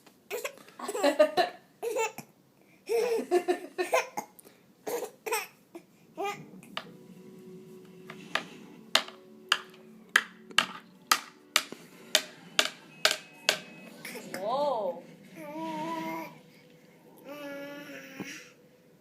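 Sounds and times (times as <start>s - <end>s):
low steady hum: 2.9s - 19.0s.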